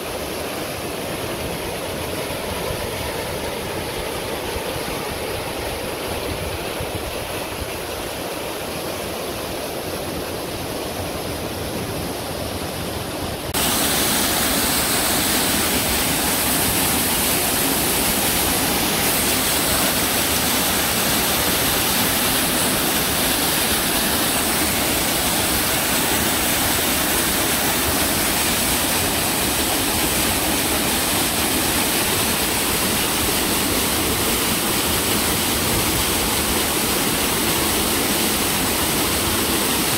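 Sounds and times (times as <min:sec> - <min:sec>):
waterfall pouring over rocks: 0:00.0 - 0:39.9.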